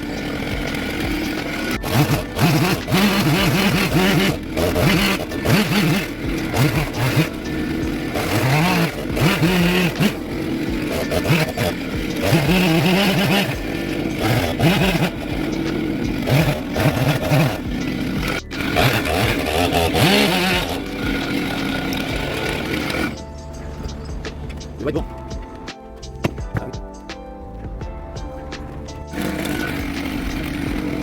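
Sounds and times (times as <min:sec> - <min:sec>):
chainsaw cutting wood: 0:00.0 - 0:23.3, 0:29.1 - 0:31.0.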